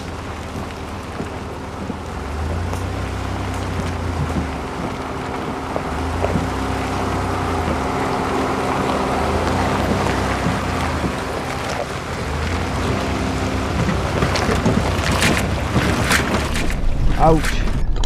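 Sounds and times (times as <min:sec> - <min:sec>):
stones cracking under tyres: 0:00.0 - 0:18.0
vehicle engine humming: 0:00.0 - 0:18.0.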